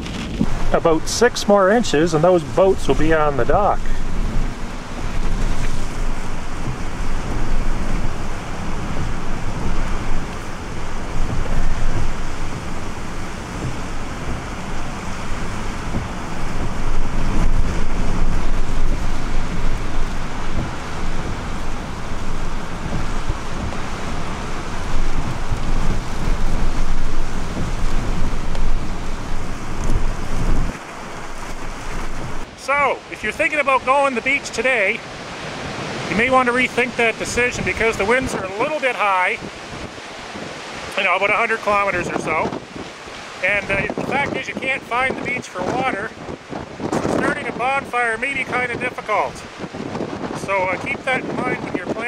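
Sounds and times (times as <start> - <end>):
rough water: 0.0 - 52.0
wind buffeting microphone: 0.0 - 52.0.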